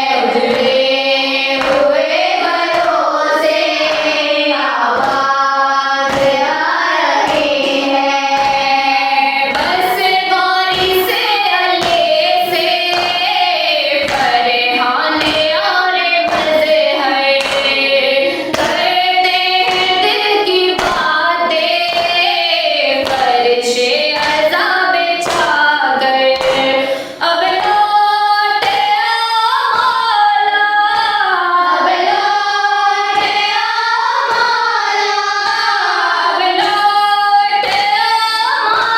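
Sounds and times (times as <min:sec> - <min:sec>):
person chanting a lament: 0:00.0 - 0:38.9.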